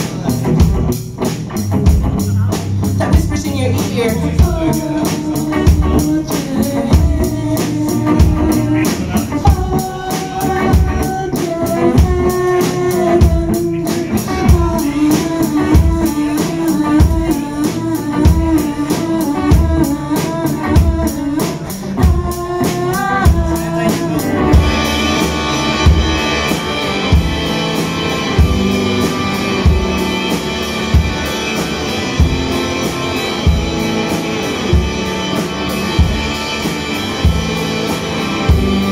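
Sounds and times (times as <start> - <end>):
drum kit playing a steady beat: 0.0 - 38.9
electric guitar: 0.0 - 38.9
person singing: 2.2 - 38.9.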